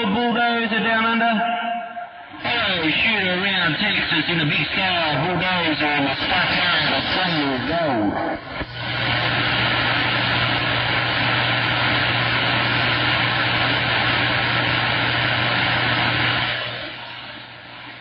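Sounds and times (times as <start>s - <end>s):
radio static hiss: 2.3s - 18.0s.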